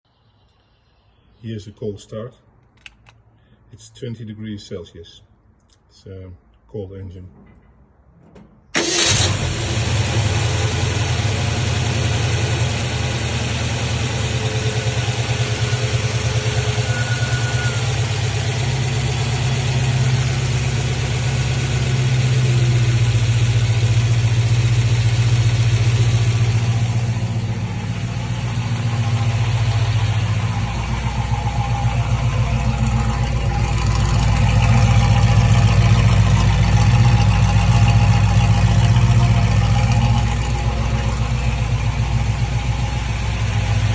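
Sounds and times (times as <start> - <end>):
car engine starting and idling: 7.4 - 43.9.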